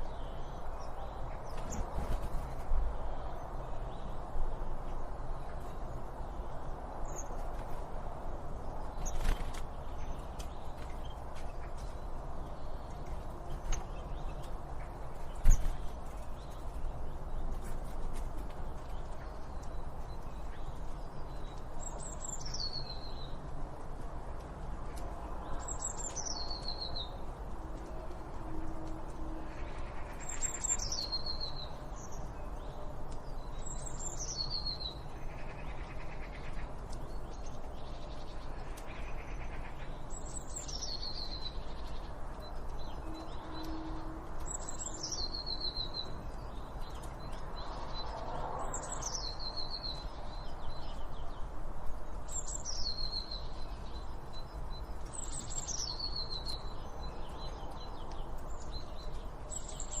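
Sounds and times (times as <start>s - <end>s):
background noise: 0.0s - 60.0s
songbird singing: 0.0s - 60.0s.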